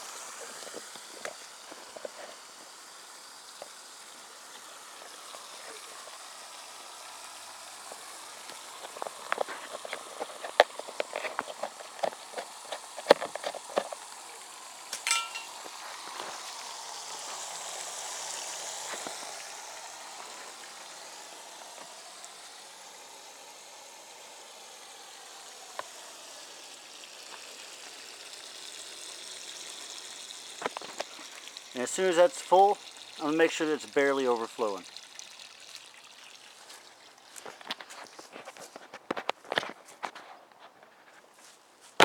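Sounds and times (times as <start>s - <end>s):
water splashing into pipe: 0.0s - 39.8s
running water hiss: 0.0s - 42.0s.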